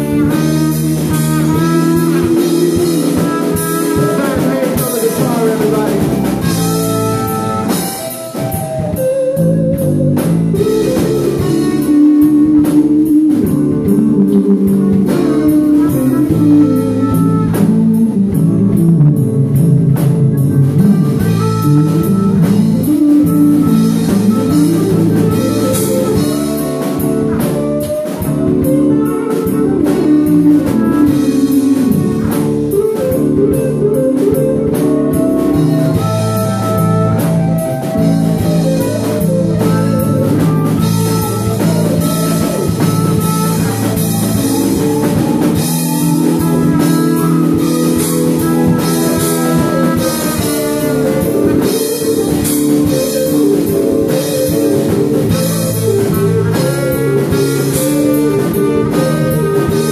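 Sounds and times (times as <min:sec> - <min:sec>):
drum kit: 0:00.0 - 0:59.9
electric guitars: 0:00.0 - 0:59.9
live rock band playing: 0:00.0 - 0:59.9.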